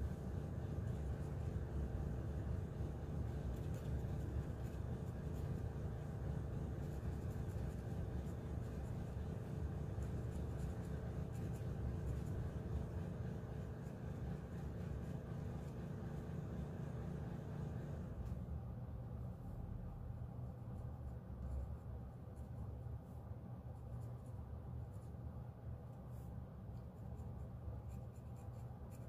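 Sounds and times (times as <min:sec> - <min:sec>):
colored pencil scratching on paper: 0:00.0 - 0:18.1, 0:20.6 - 0:25.3, 0:25.9 - 0:29.0
steady low hum: 0:00.0 - 0:29.0.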